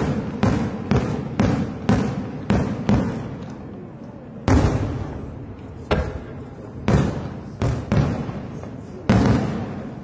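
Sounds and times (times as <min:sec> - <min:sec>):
fireworks booming: 0:00.0 - 0:03.4, 0:04.4 - 0:10.0.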